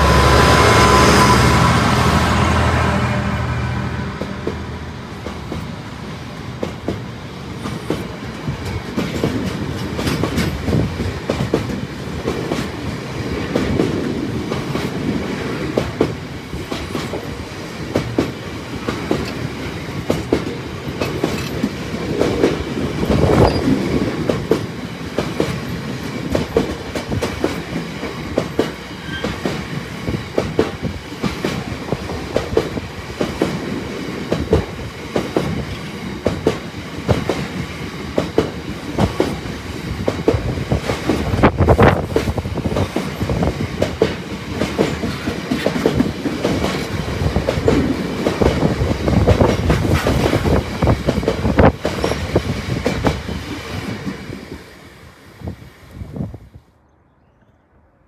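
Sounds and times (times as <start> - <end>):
freight train rumble: 0.0 - 56.6
train wheels clickety-clack: 4.2 - 54.7.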